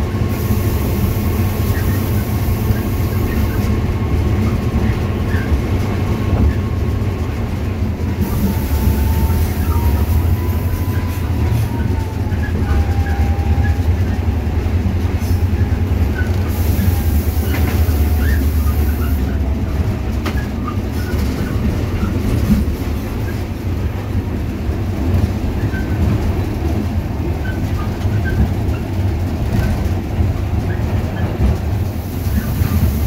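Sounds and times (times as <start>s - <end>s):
diesel locomotive engine rumble: 0.0s - 33.0s
wheels clattering on track: 0.2s - 33.0s.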